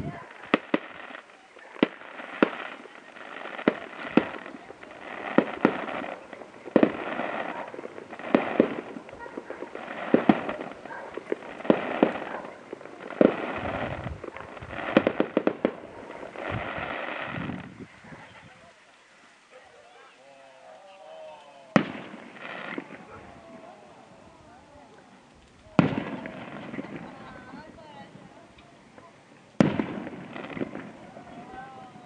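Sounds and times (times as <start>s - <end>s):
fireworks bangs: 0.0s - 18.7s, 19.5s - 32.0s.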